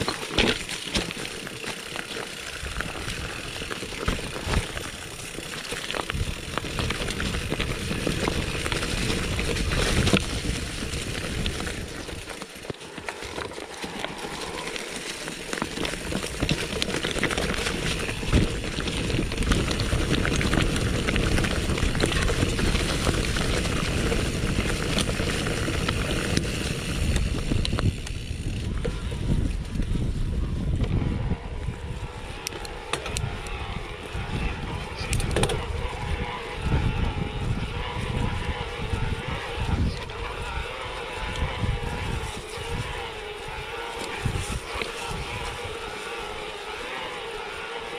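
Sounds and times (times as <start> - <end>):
bike rattling and knocking: 0.0 - 40.6
bike tyres crunching over dirt: 0.0 - 47.9
wind on microphone: 2.4 - 12.3, 15.8 - 47.9.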